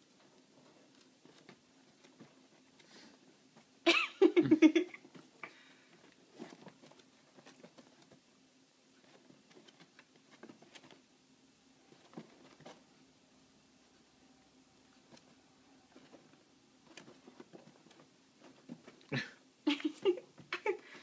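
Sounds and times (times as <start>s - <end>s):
rabbit rustling in bedding: 0.0s - 3.8s, 5.0s - 19.1s.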